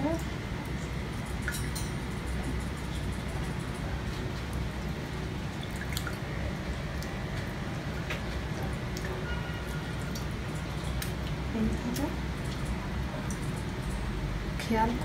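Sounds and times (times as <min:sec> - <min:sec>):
low background hum: 0:00.0 - 0:15.0
juice dripping into ice: 0:00.1 - 0:14.2.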